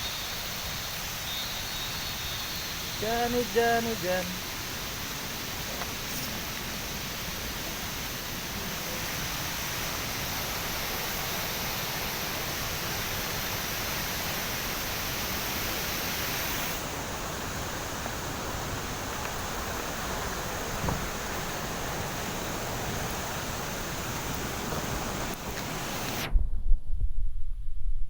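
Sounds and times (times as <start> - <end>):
falling water rushing: 0.0 - 26.3.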